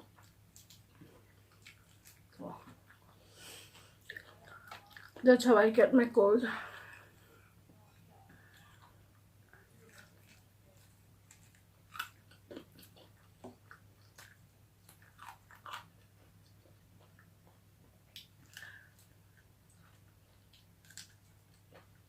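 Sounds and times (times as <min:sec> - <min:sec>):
person chewing bones crunching: 0:00.0 - 0:05.2, 0:07.8 - 0:22.0
faint low hum: 0:00.0 - 0:22.0.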